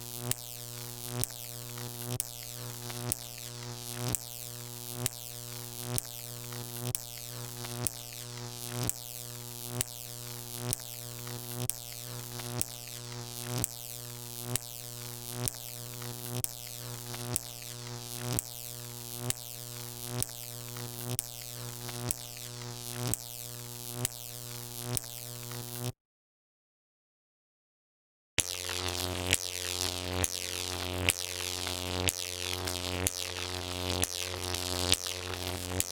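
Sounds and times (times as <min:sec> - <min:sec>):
electric arc buzzing: 0:00.0 - 0:25.9, 0:28.4 - 0:35.9
electric arc cracking: 0:00.0 - 0:25.9, 0:28.4 - 0:35.9.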